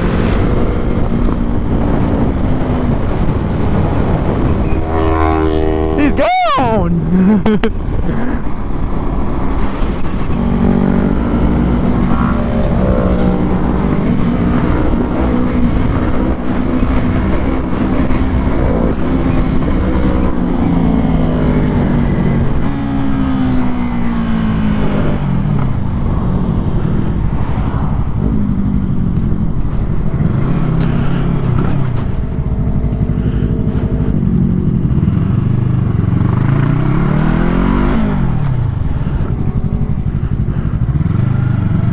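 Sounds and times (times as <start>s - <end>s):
motorcycle engine revving: 0.0s - 6.2s, 6.8s - 41.9s
road and wind noise: 0.0s - 41.9s.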